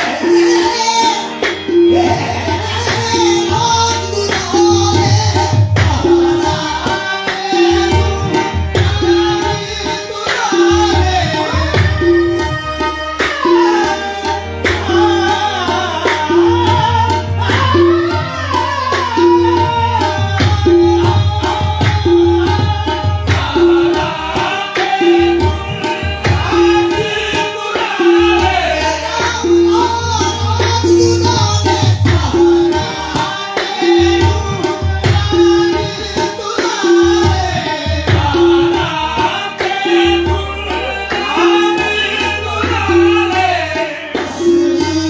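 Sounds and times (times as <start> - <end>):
harmonium: 0.0 - 45.0
tabla beat: 0.0 - 45.0.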